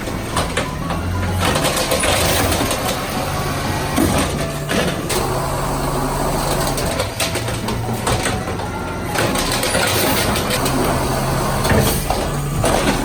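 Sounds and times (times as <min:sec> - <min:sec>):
garbage truck engine idling: 0:00.0 - 0:13.0.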